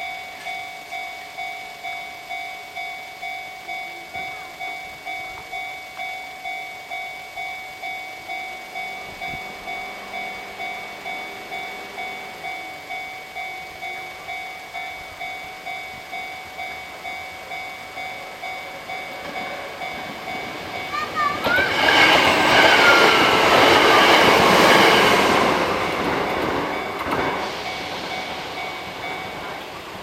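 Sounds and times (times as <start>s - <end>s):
approaching train: 0.0s - 30.0s
level crossing alarm bell: 0.0s - 30.0s.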